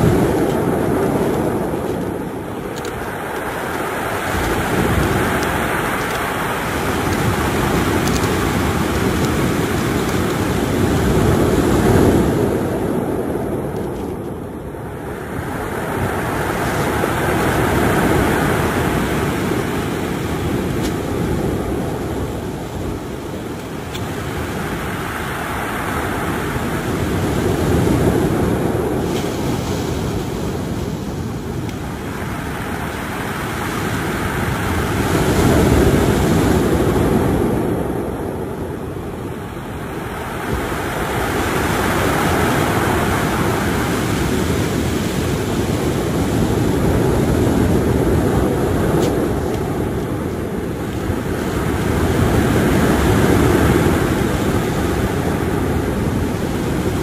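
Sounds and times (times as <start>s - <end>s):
surf washing over cobbles: 0.0s - 57.0s.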